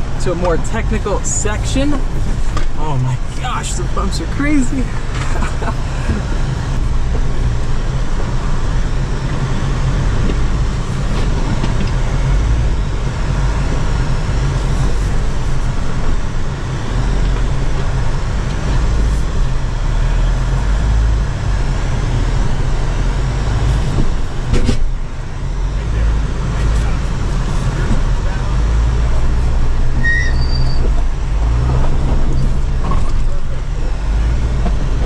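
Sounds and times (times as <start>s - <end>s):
vehicle engine rumble: 0.0s - 35.0s.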